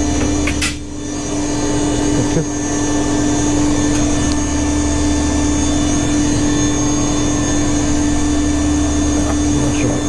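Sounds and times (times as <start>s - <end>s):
electric motor humming with whine: 0.0s - 10.0s.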